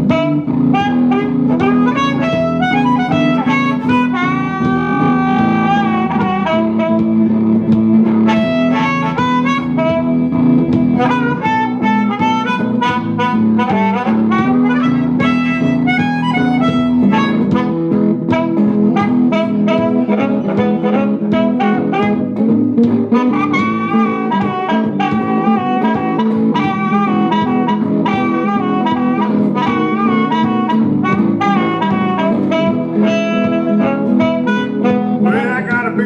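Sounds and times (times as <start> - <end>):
blues harmonica solo: 0.0 - 36.0
strummed guitar: 0.0 - 36.0.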